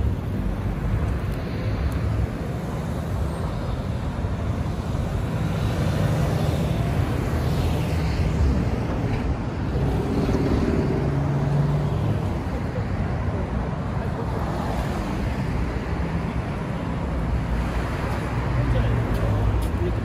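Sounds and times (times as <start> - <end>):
cars passing: 0.0 - 20.0.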